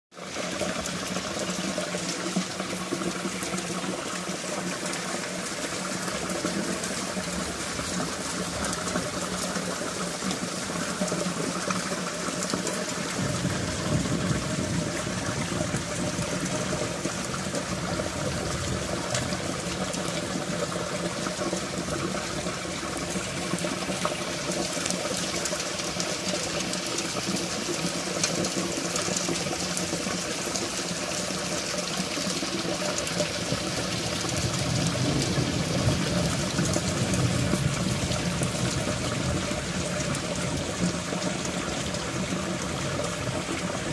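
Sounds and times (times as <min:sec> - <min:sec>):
heavy rain on concrete: 0:00.1 - 0:43.9
rain running off roof tiles: 0:00.1 - 0:43.9.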